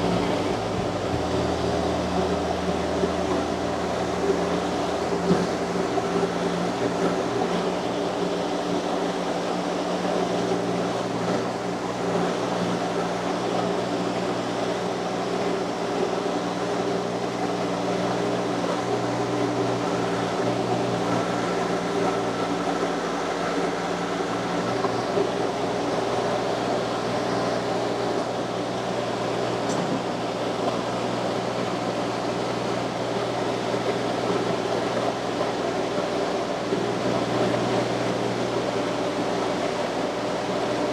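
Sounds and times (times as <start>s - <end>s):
loader engine running: 0.0s - 40.9s.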